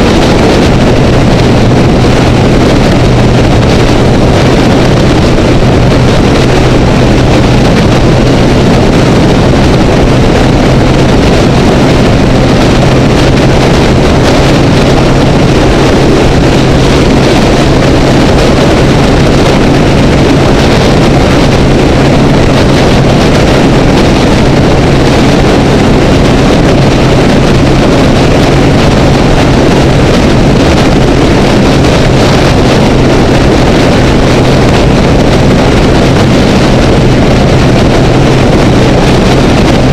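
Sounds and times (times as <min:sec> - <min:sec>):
motorcycle engine drone: 0:00.0 - 0:39.9
wind rushing against camera: 0:00.0 - 0:39.9.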